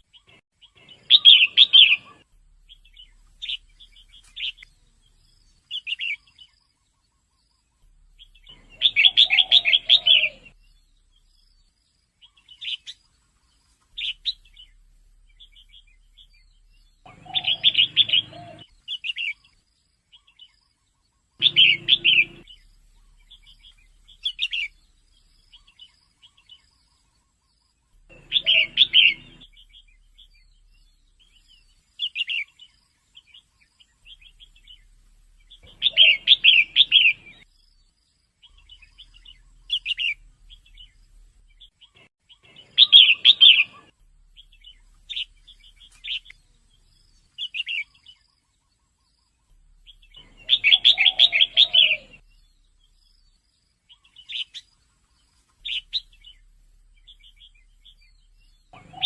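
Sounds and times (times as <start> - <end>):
bulbul calling: 0.0 - 37.8, 38.4 - 59.0.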